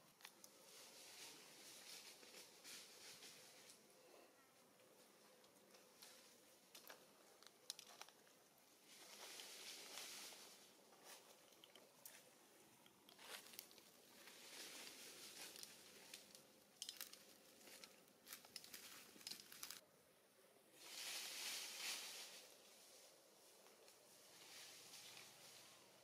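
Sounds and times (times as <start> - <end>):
rustling of dry leaves: 0.0 - 4.1, 5.0 - 19.8, 20.7 - 26.0.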